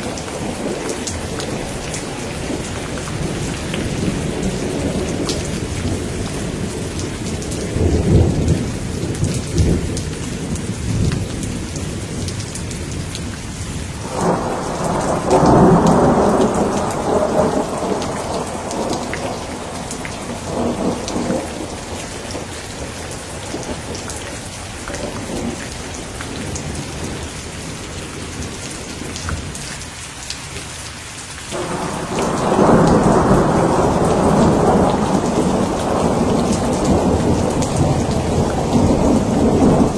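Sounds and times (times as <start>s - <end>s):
rolling thunder: 0.0s - 13.0s, 14.0s - 27.3s, 31.5s - 39.9s
steady rain: 0.0s - 39.9s.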